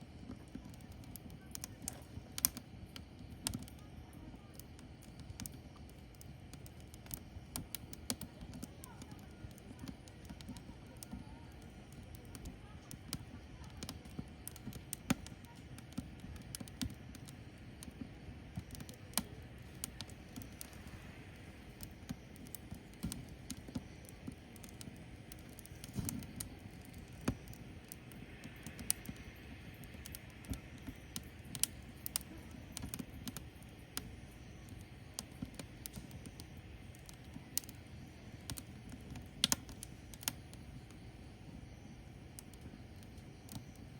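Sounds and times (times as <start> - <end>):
firewood crackling and popping: 0.0 - 43.9
low steady noise: 0.0 - 43.9.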